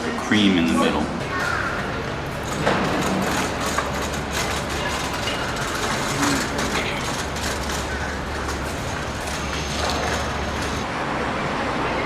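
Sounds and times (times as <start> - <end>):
traffic hum and hiss: 0.0 - 12.0.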